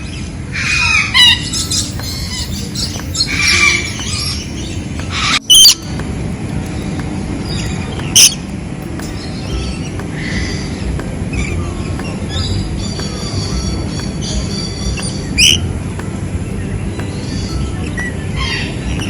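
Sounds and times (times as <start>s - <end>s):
birds calling: 1.2s - 19.0s
background din: 1.4s - 19.0s.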